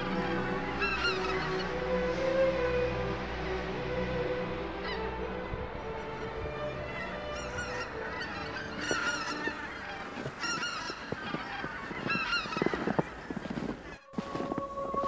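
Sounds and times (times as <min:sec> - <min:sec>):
geese honking in flight: 0:00.0 - 0:15.0.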